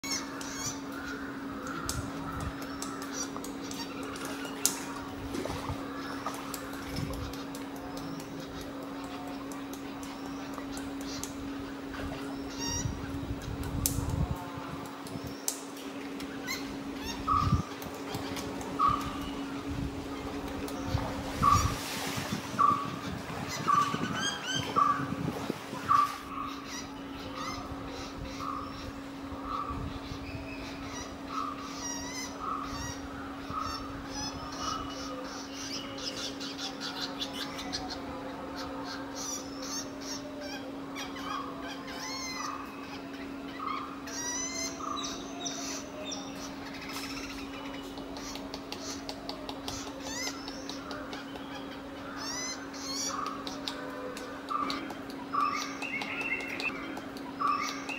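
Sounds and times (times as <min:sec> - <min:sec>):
birds calling: 0:00.0 - 0:57.9
steady low hum: 0:00.0 - 0:57.9.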